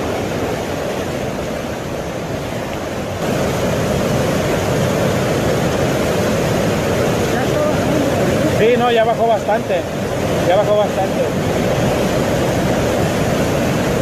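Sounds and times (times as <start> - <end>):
rushing floodwater: 0.0 - 14.0.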